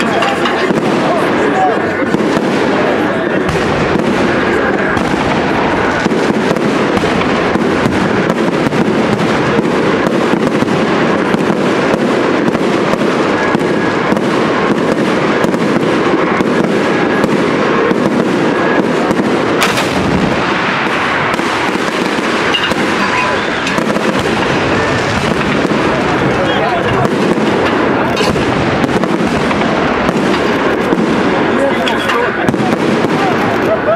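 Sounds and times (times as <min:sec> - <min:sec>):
fireworks crackling and banging: 0:00.0 - 0:33.9.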